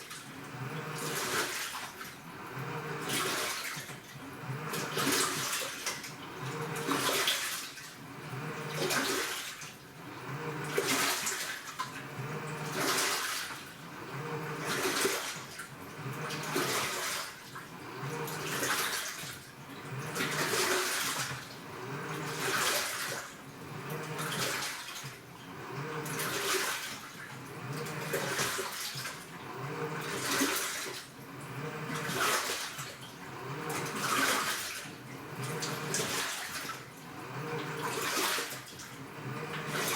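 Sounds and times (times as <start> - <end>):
washing machine churning water: 0.0 - 39.9
washing machine motor humming: 0.0 - 39.9.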